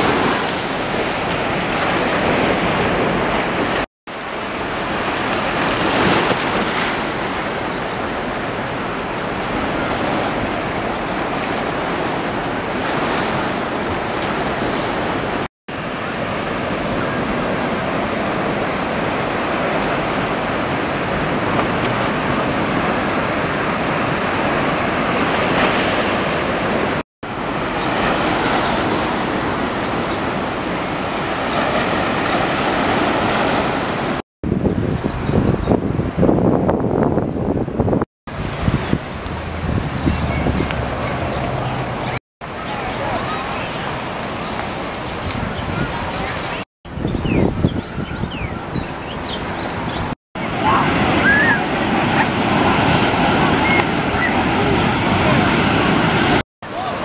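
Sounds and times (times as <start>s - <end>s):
ocean surf breaking on beach: 0.0s - 47.2s, 48.7s - 57.0s.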